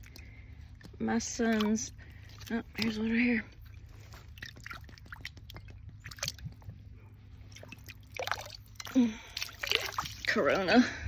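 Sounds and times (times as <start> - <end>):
water splashing and dripping: 0.0 - 6.8, 7.4 - 10.8.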